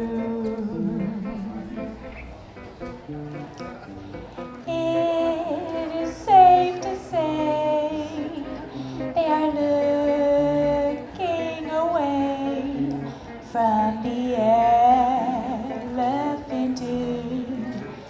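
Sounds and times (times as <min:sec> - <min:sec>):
woman singing into a microphone: 0:00.0 - 0:02.0, 0:04.6 - 0:18.0
guitar playing low notes: 0:00.0 - 0:18.0.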